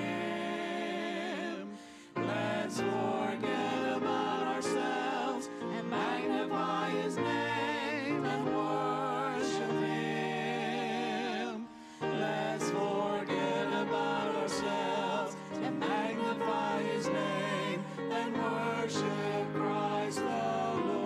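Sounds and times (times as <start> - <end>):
group singing a church song: 0.0 - 21.0.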